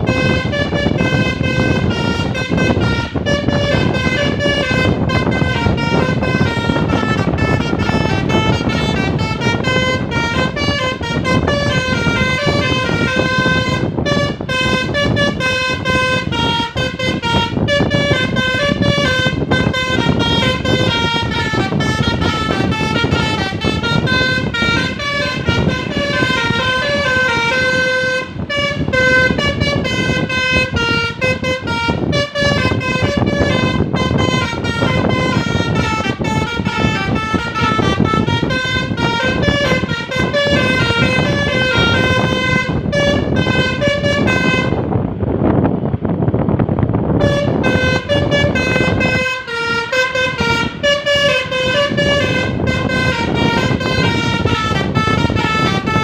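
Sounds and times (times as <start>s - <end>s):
engine and road noise: 0.0s - 56.0s
multi-tone bus horn tune: 0.0s - 56.0s.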